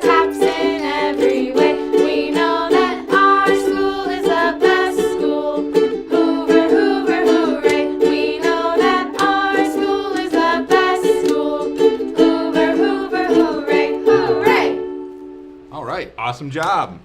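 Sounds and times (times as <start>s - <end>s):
voices singing: 0.0s - 14.9s
strummed string instrument: 0.0s - 15.6s.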